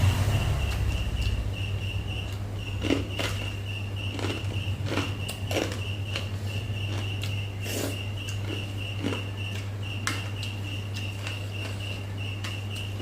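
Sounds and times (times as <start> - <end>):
person chewing food: 2.2 - 13.0.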